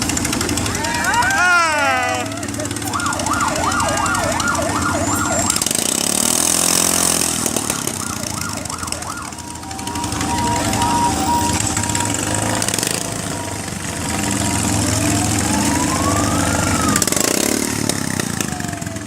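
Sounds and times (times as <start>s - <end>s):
engine running: 0.0s - 19.0s
vehicle siren yelping: 0.7s - 19.0s.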